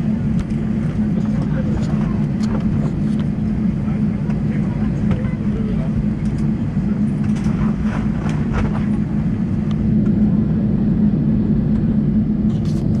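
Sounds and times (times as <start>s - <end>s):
aircraft cabin hum and drone: 0.0s - 13.0s.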